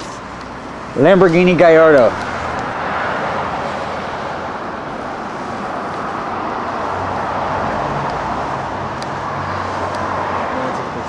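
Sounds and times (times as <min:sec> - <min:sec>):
traffic rushing past: 0:00.0 - 0:11.0.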